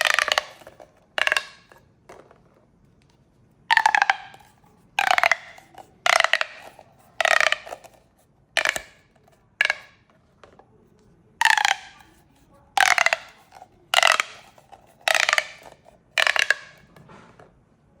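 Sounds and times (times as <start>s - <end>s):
plastic pop tubes crackling: 0.0s - 17.0s.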